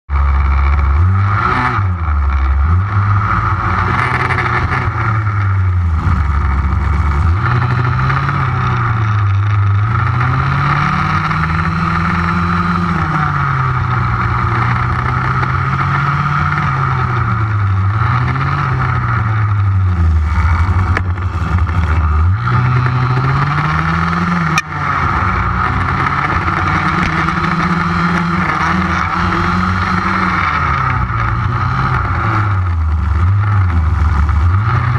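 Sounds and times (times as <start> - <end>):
small two-stroke engine revving: 0.1 - 34.9.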